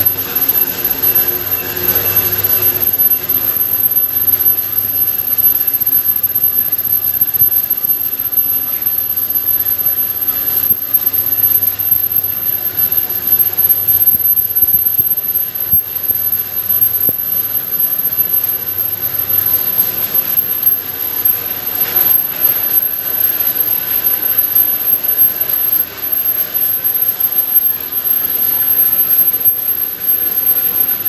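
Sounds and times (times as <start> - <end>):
high-pitched whine: 0.0 - 31.0
lathe running: 0.0 - 31.0.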